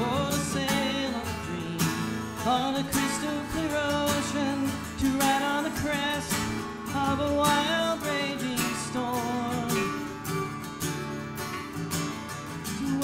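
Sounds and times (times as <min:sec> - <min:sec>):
man singing: 0:00.0 - 0:10.3, 0:12.6 - 0:13.0
strummed acoustic guitar: 0:00.0 - 0:13.0.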